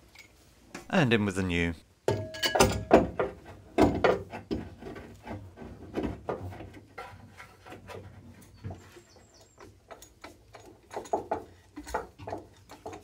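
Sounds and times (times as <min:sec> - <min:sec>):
metal knocking and scraping: 0:02.1 - 0:13.0.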